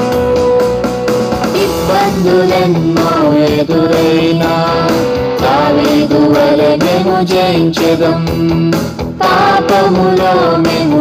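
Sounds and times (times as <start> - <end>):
song with melody and steady beat: 0.0 - 11.0.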